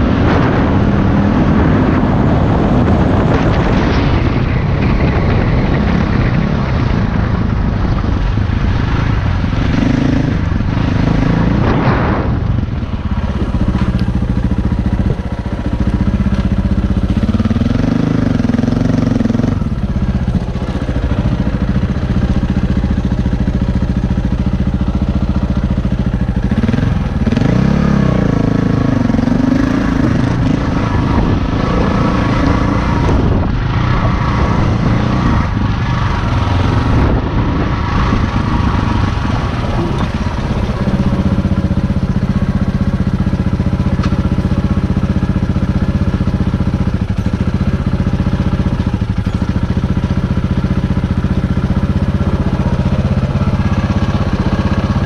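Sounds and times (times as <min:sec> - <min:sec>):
dirt bike engine at low revs: 0:00.0 - 0:55.0.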